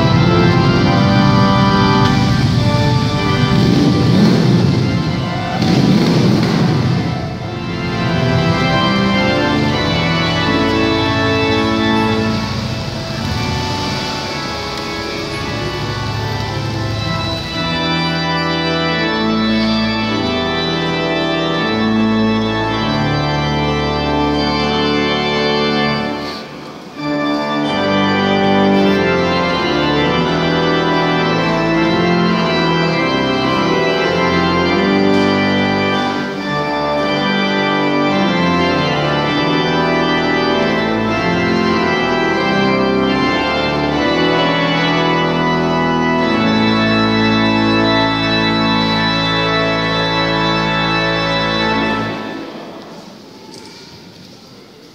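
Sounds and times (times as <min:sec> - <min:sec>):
organ chords: 0:00.0 - 0:53.6.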